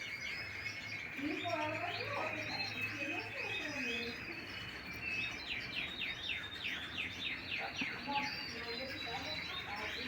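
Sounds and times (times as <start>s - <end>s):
canaries chirping and singing: 0.0s - 10.0s.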